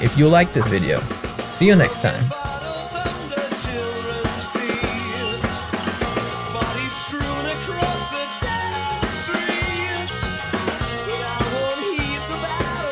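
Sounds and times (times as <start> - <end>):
backing track instruments: 0.0 - 12.9
drum kit rock beat: 0.1 - 12.9.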